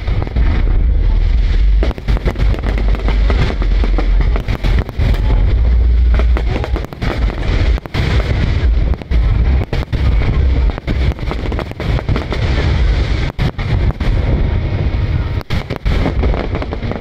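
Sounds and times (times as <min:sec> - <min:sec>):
aerial fireworks booming and crackling: 0:00.0 - 0:17.0.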